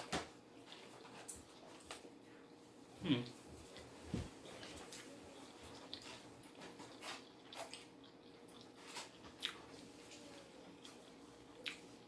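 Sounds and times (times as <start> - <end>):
person chewing food: 0.5 - 12.0.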